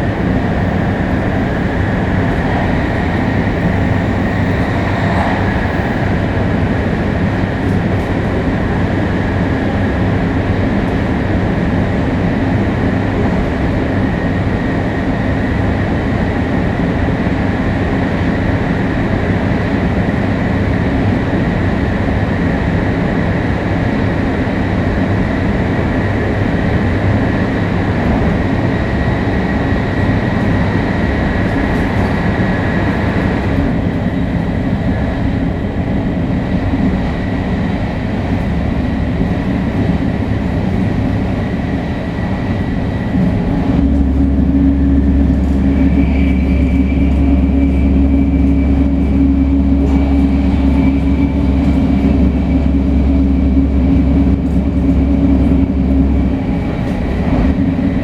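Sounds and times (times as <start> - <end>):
high-speed train running: 0.0 - 58.0.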